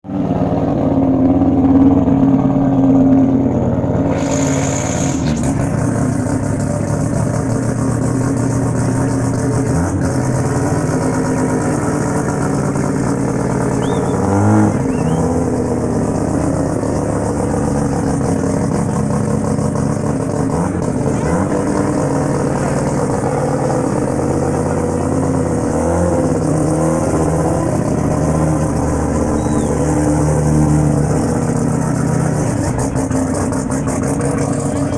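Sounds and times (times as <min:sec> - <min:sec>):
rotary engine running: 0:00.2 - 0:34.9.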